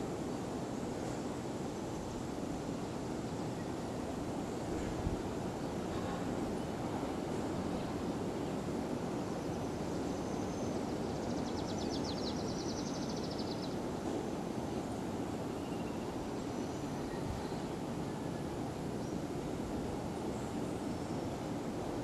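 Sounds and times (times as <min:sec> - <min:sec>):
outdoor ambient rush: 0:00.0 - 0:22.0.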